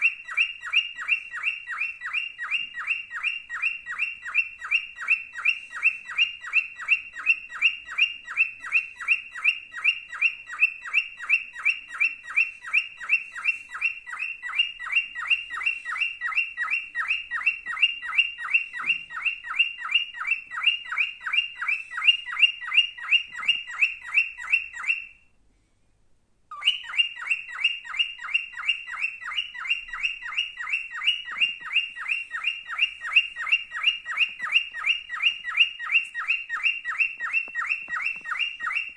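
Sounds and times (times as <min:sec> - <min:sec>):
cockatiel chirping: 0:00.0 - 0:25.3, 0:26.5 - 0:38.9.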